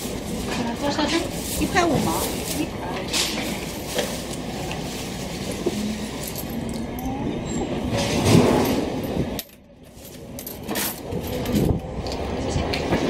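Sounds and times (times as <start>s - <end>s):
street background noise: 0.0s - 13.0s.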